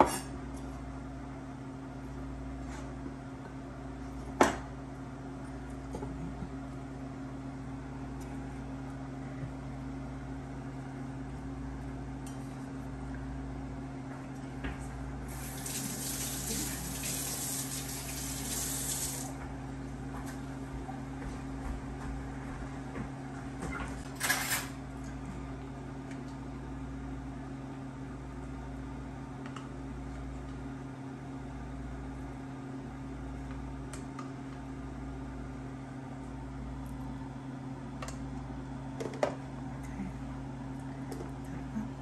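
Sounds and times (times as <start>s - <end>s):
appliance hum: 0.0s - 42.0s.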